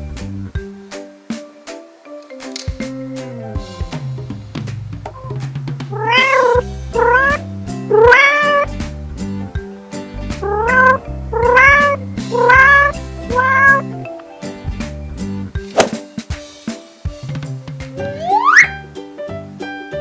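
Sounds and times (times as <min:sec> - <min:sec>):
background music with beat: 0:00.0 - 0:20.0.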